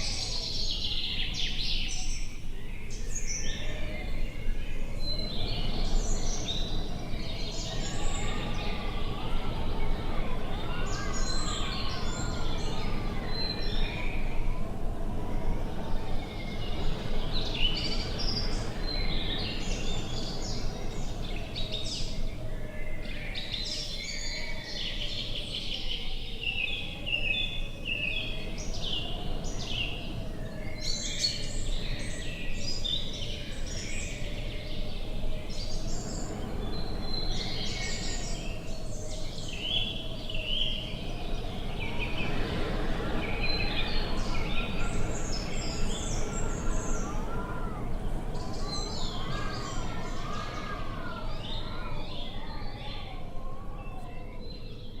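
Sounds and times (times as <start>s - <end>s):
low rumble of wind: 0.0s - 55.0s
small birds chirping and singing: 0.0s - 55.0s.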